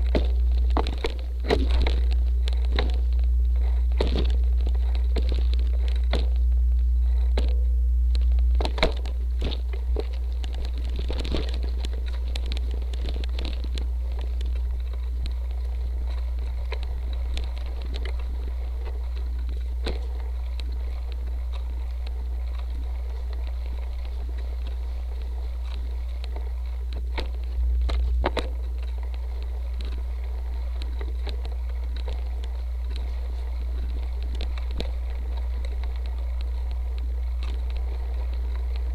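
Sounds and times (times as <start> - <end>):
bike knocks and rattles: 0.0 - 38.9
bike ride wind and vibration rumble: 0.0 - 38.9.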